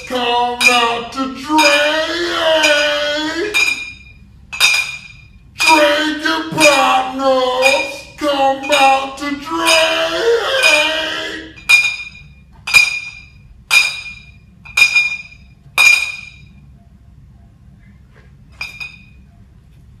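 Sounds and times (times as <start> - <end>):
glass clinking: 0.0 - 16.6, 18.5 - 19.3.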